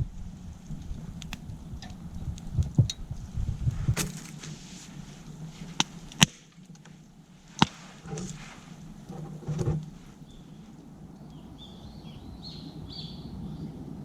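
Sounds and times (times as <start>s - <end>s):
low rumbling handling noise: 0.0s - 14.0s.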